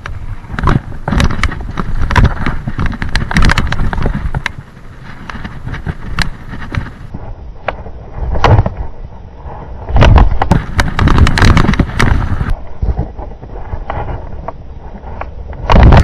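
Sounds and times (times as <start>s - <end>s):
bike rattling and knocking: 0.0s - 8.9s, 10.0s - 14.6s
wind rumbling on microphone: 0.0s - 16.0s.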